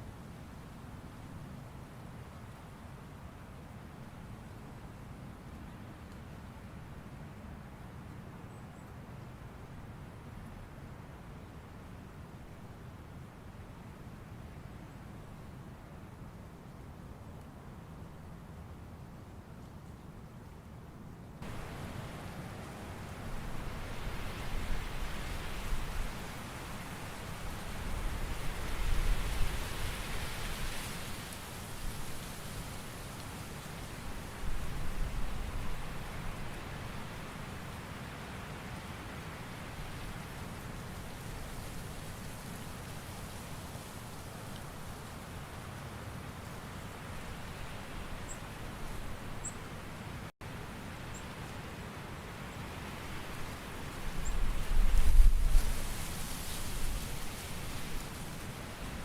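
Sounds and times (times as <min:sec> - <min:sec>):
steady forest hiss: 0:00.0 - 0:59.0.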